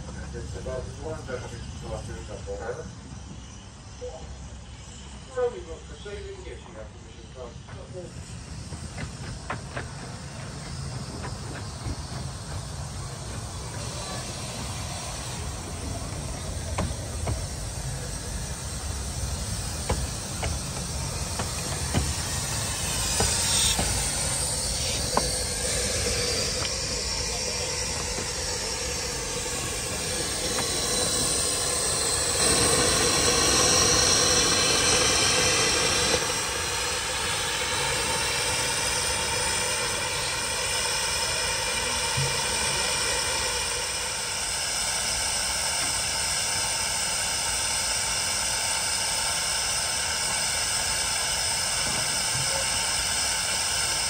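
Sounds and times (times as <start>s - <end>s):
miniature train running: 7.6s - 54.0s.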